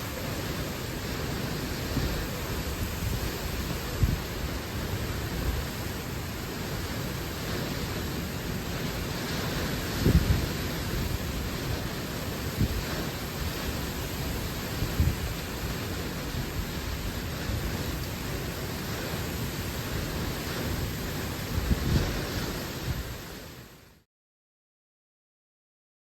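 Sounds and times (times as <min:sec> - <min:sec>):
wind and rain on microphone: 0:00.0 - 0:24.1.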